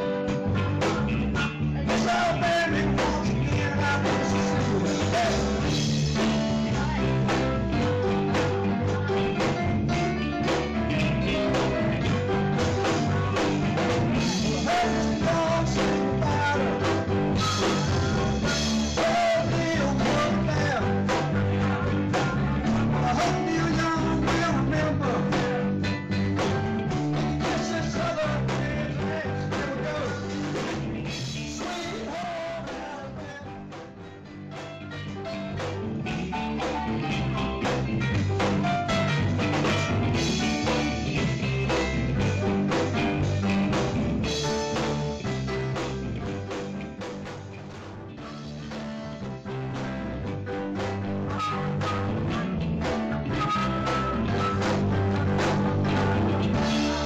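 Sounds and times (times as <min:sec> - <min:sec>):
drum kit: 0:00.0 - 0:57.0
electric guitar: 0:00.0 - 0:57.0
keyboards: 0:00.0 - 0:57.0.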